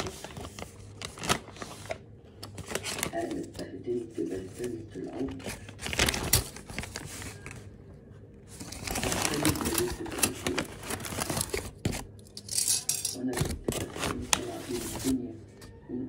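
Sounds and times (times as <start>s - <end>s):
paper bag crinkling: 0.0s - 7.8s, 8.4s - 12.3s, 13.3s - 15.2s.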